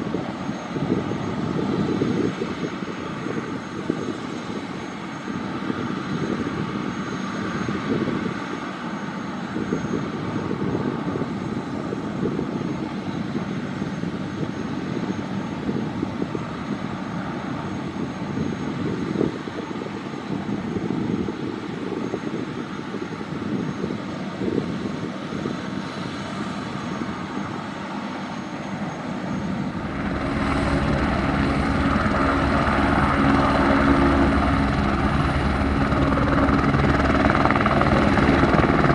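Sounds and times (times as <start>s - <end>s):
helicopter rotor beat: 0.0s - 38.9s
helicopter turbine whine: 0.0s - 38.9s.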